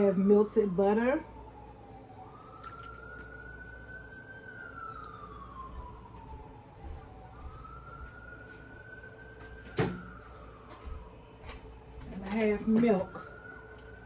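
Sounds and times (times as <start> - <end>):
faint emergency siren wailing: 0.0 - 14.0.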